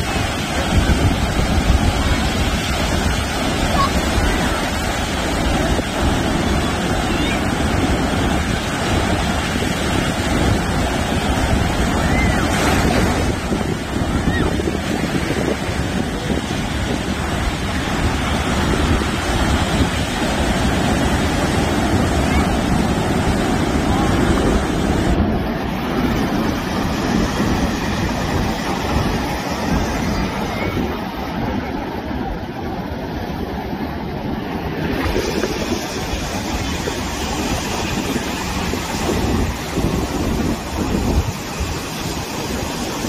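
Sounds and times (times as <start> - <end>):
waves breaking: 0.0 - 43.0
wind buffeting microphone: 0.0 - 43.0.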